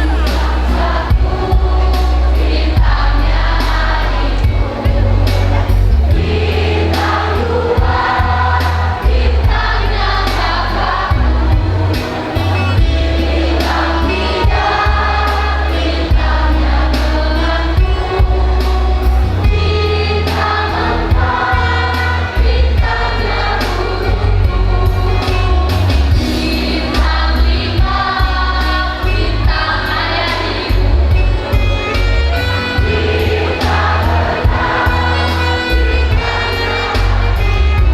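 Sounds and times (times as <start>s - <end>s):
choir singing held notes: 0.0s - 37.9s
heavy steady bass: 0.0s - 37.9s.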